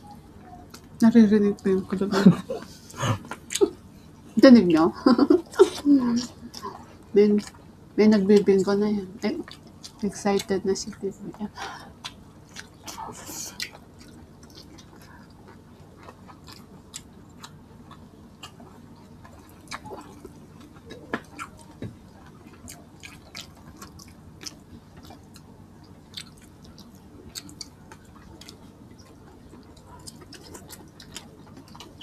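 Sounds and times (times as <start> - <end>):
faint low hum: 0.0 - 32.0
chewing and wet mouth noises: 2.6 - 4.8, 5.5 - 7.6, 9.2 - 32.0.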